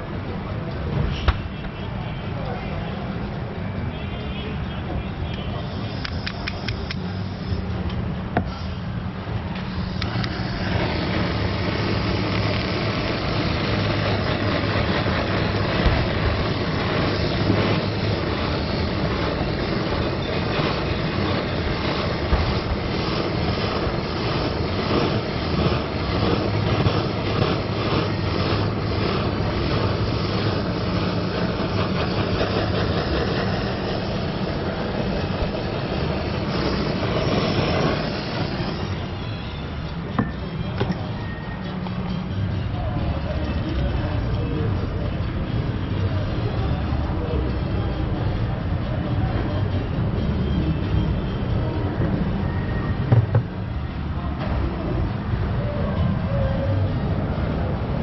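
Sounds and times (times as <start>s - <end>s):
mechanical drone with low hum: 0.0s - 58.0s.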